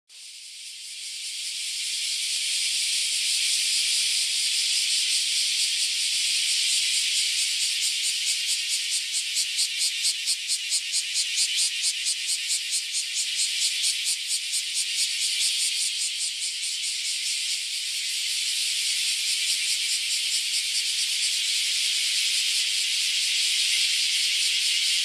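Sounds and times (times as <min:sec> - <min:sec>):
cicadas buzzing: 0:00.2 - 0:25.0.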